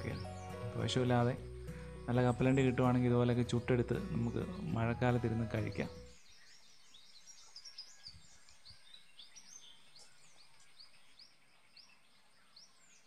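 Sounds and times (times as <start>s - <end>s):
faint birdsong chirps: 0.0s - 13.0s.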